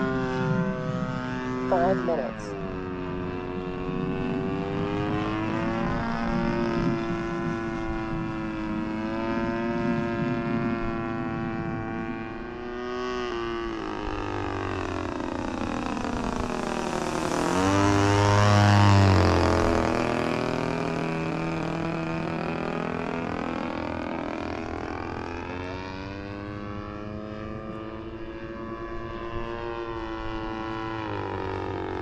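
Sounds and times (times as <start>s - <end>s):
model plane engine passing: 0.0s - 32.0s.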